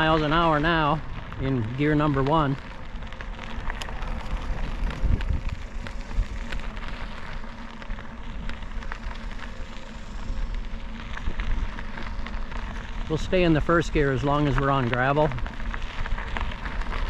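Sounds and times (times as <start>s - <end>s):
tyres crunching on gravel: 0.0s - 17.0s
wind rumble on microphone: 0.0s - 17.0s.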